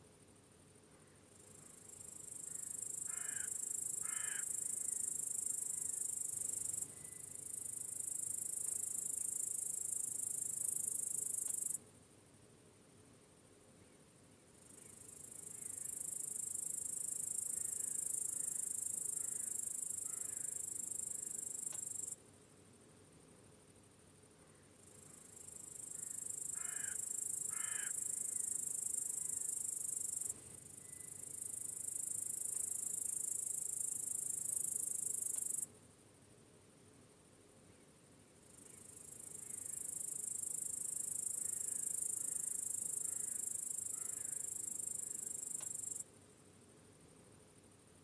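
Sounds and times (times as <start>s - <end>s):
crickets chirping: 0.1s - 11.8s, 13.7s - 48.0s.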